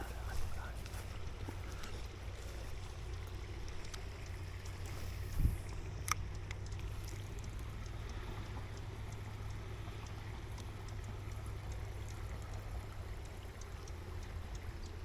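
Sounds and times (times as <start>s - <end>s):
creek water running: 0.0s - 15.0s
faint ticks: 0.0s - 15.0s.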